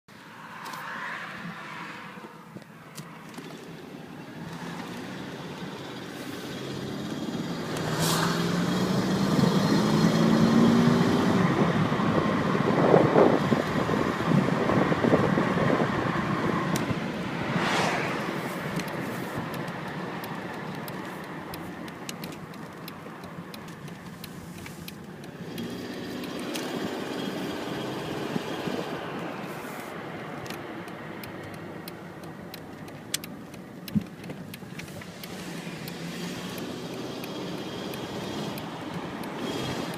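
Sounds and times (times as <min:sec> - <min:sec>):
car engine pulling under load: 0:00.5 - 0:39.9.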